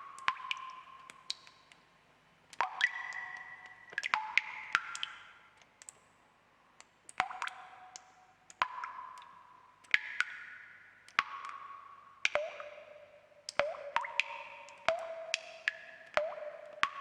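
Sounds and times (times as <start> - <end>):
water drops plinking into water: 0.0 - 1.8, 2.5 - 6.0, 6.8 - 17.0.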